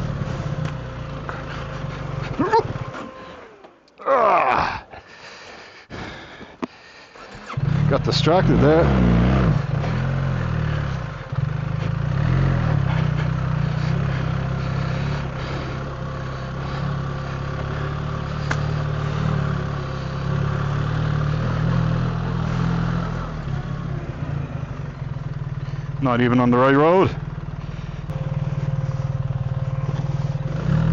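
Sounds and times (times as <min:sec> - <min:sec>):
motorcycle engine running: 0:00.0 - 0:03.8, 0:06.8 - 0:30.9.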